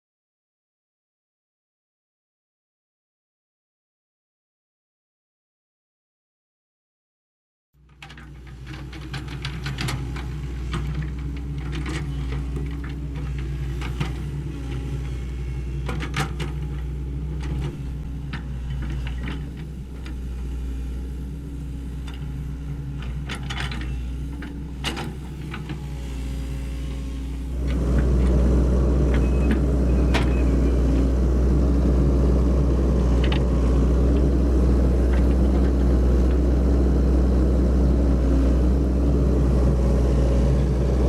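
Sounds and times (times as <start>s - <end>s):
excavator diesel engine running: 7.9s - 41.0s.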